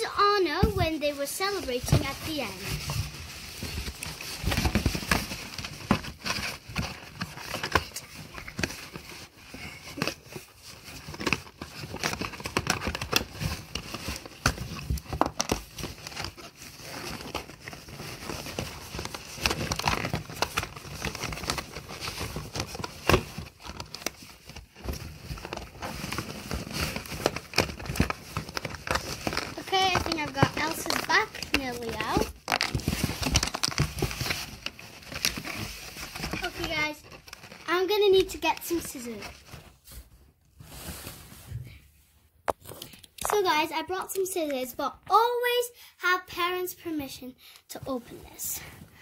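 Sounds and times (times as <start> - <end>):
plastic packaging crinkling: 0.1 - 41.2
clicks and rustles: 0.6 - 39.7, 42.4 - 44.6.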